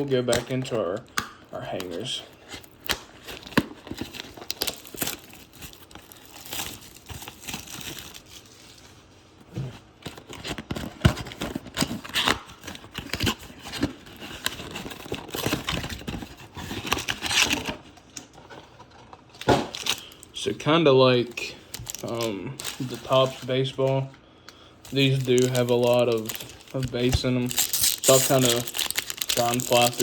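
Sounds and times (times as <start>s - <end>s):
plastic packaging torn and crinkled: 1.5s - 8.8s, 10.1s - 17.9s, 19.4s - 20.4s, 21.2s - 24.1s, 24.9s - 30.0s.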